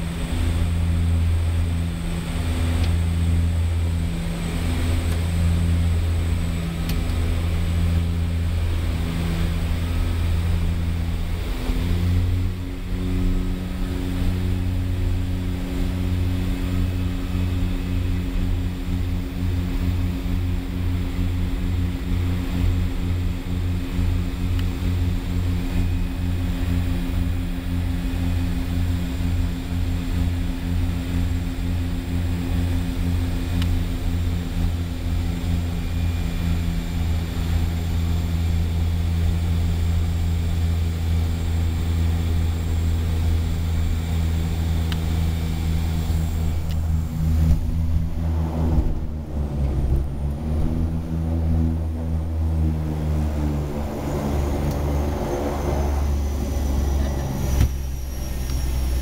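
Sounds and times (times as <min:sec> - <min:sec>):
propeller engines droning: 0:00.0 - 0:59.0.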